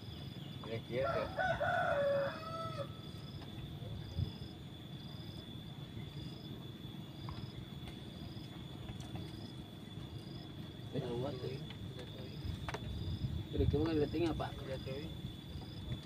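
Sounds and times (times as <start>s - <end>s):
insects whining: 0.0s - 16.0s
rising insect chirp: 0.0s - 16.0s.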